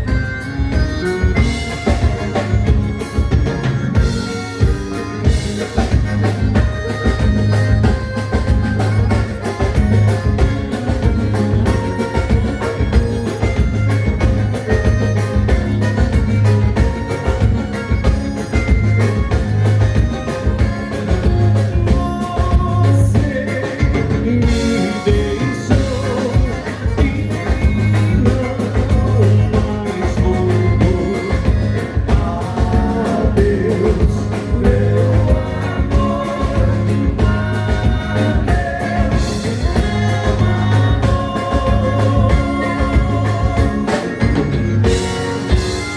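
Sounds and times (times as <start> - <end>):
accordion: 0.0 - 45.9
bass: 0.0 - 45.9
dance band playing: 0.0 - 45.9
drums dance beat: 0.0 - 45.9.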